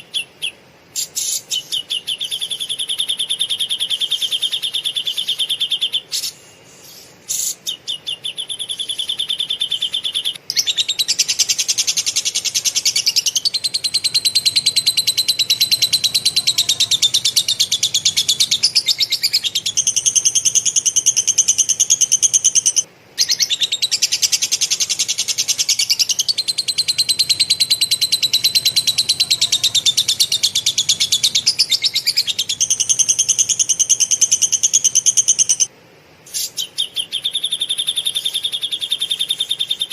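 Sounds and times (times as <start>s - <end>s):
songbird chattering trills: 0.0s - 35.7s.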